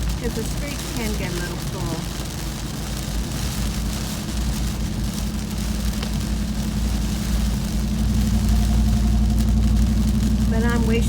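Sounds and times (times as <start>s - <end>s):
low engine and road drone: 0.0s - 11.0s
rain: 0.0s - 11.0s
tyres hissing on wet road: 0.0s - 11.0s.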